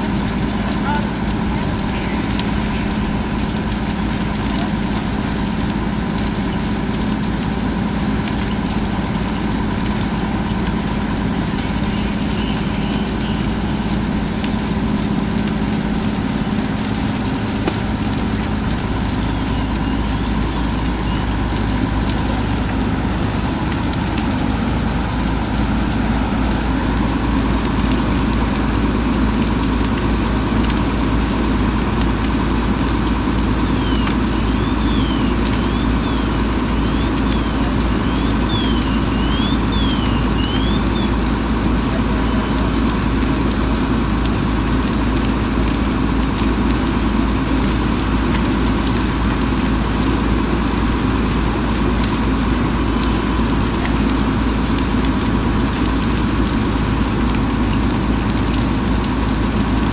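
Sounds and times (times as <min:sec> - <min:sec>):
fire engine motor running: 0:00.0 - 0:59.9
rushing hiss of fire and spray: 0:00.0 - 0:59.9.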